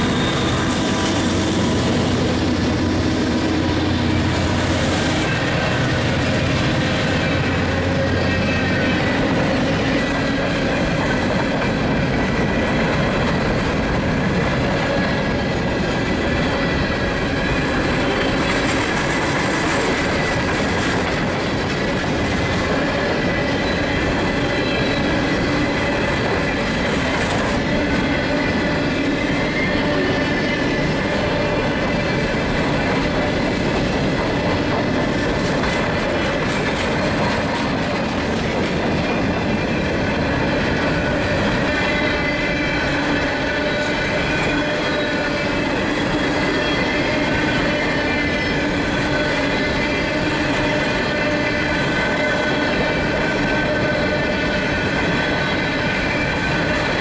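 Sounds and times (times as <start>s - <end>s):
train wheels whirring on rail: 0.0s - 57.0s.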